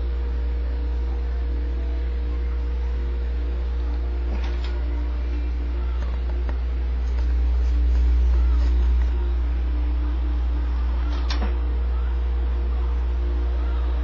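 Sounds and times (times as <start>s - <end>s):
computer humming: 0.0s - 14.0s
faint machine whir: 0.0s - 14.0s.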